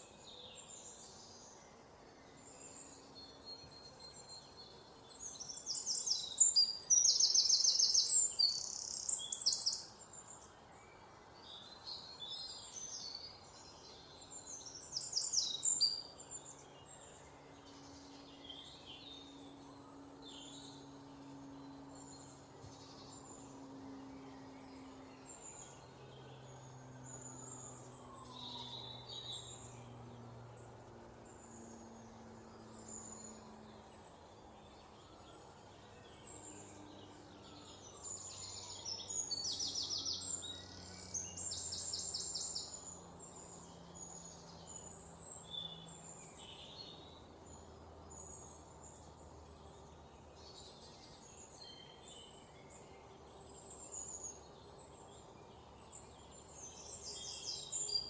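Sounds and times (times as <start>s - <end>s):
songbirds chirping and whistling: 0.0s - 58.0s.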